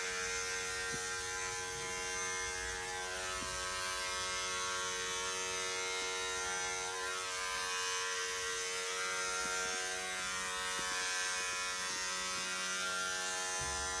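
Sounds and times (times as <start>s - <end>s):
electric shaver buzzing: 0.0s - 14.0s.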